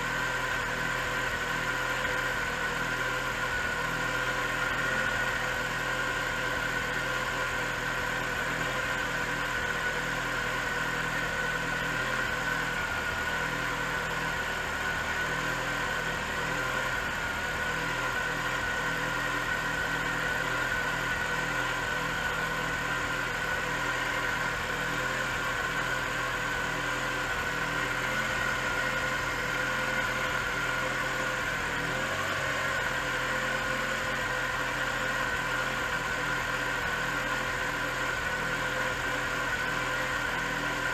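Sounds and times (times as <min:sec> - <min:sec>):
car engine idling: 0:00.0 - 0:40.9
high whine of timing belt: 0:00.0 - 0:40.9.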